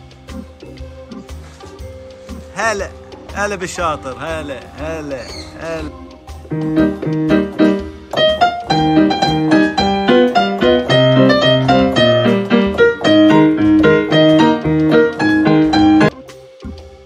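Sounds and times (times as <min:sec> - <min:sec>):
lively piano music: 0:00.0 - 0:16.3.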